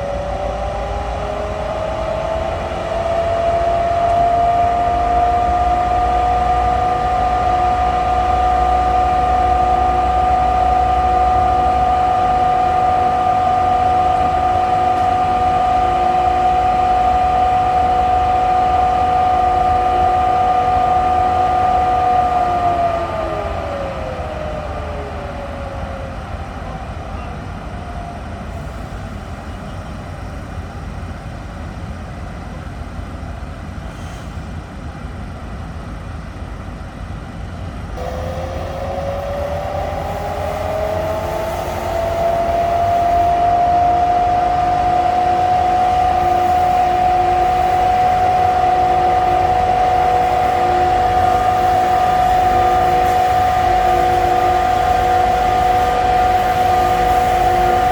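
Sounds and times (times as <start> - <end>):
electric locomotive whining: 0.0 - 57.9
low noisy rumble: 0.0 - 57.9.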